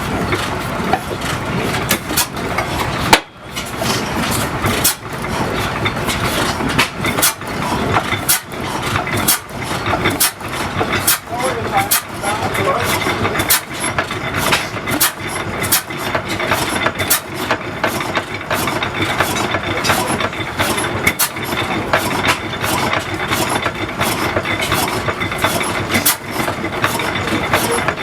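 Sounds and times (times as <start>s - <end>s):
gas engine running: 0.0s - 28.0s.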